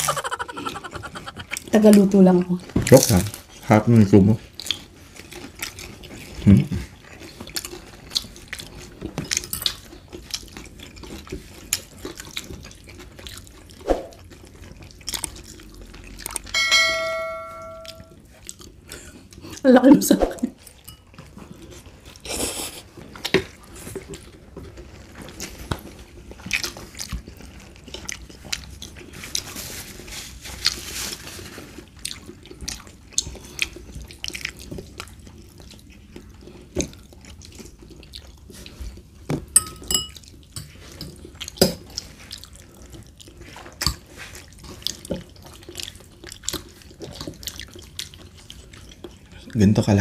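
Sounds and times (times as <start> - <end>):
chewing and slurping noodles: 0.0 - 3.6, 4.3 - 16.6, 17.9 - 19.6, 20.6 - 49.6.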